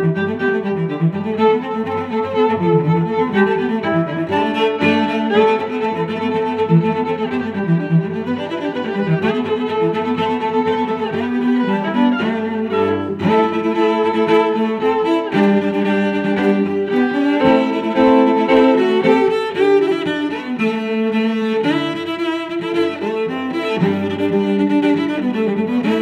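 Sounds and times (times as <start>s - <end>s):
violin and cello music: 0.0s - 26.0s.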